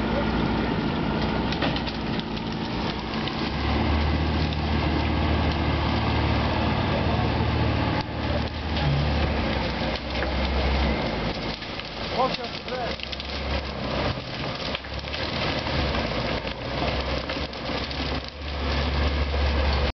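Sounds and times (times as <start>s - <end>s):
engine running low: 0.0s - 19.9s.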